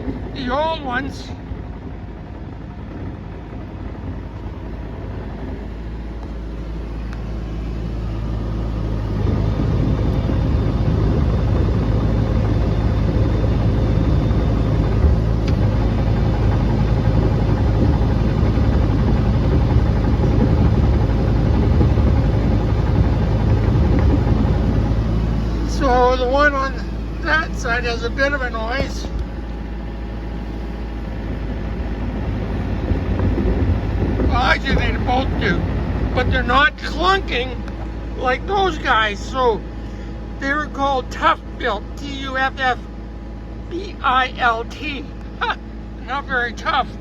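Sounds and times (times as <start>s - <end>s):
small excavator running on tracks: 0.0s - 47.0s.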